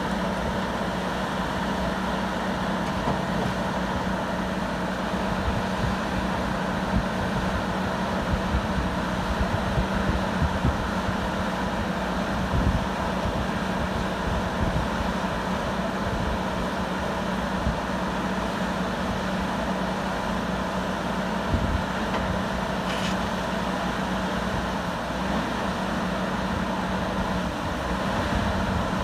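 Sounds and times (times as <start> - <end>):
heavy machinery drone: 0.0 - 29.0.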